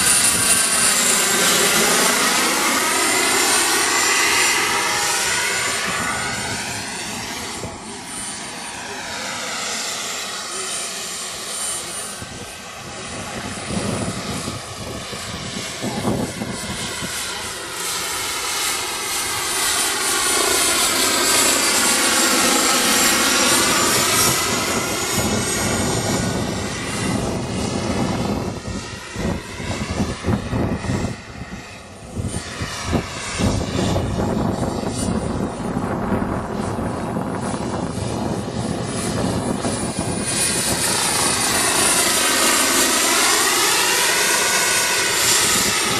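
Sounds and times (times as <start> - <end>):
helicopter rotor noise: 0.0 - 45.9
model helicopter turbine whine: 0.0 - 45.9.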